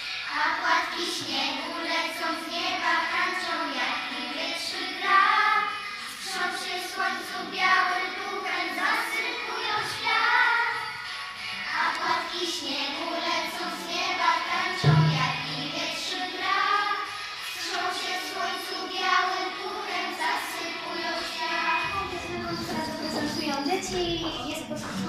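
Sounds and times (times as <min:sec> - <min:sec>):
children singing in unison: 0:00.0 - 0:24.7.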